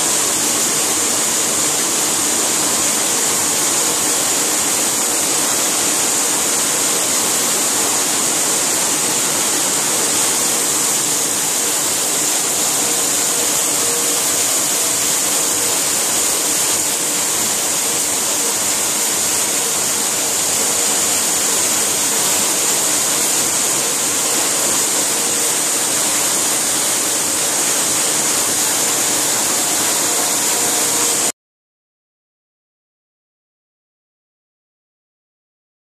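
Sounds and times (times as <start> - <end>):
printing press running: 0.2 - 31.3.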